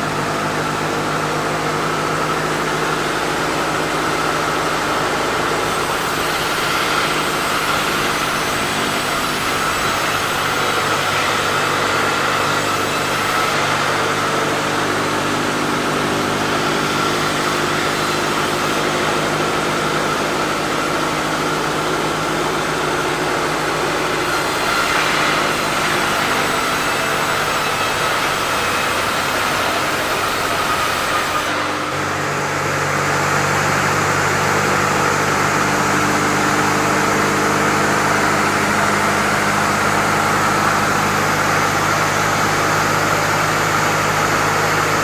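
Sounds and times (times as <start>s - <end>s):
sawmill saw droning: 0.0s - 45.0s.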